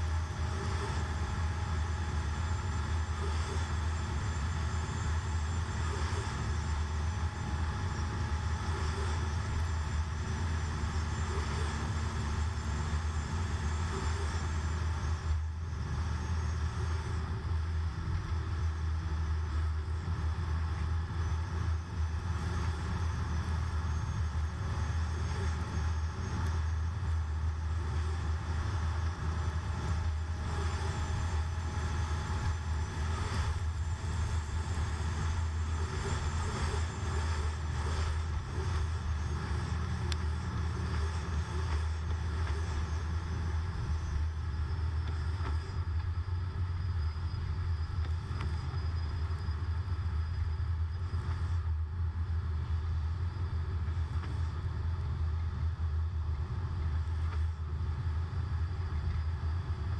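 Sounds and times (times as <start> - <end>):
car engine drone: 0.0 - 59.9.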